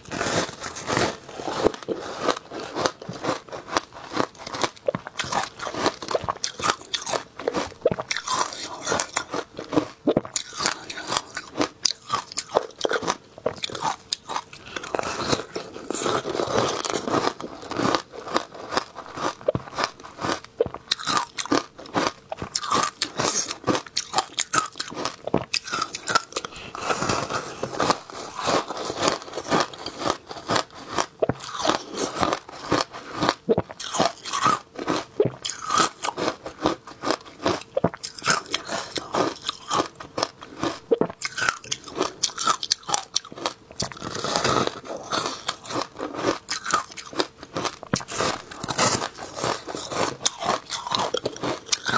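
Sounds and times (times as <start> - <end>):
person crunching shaved ice: 0.0 - 51.9.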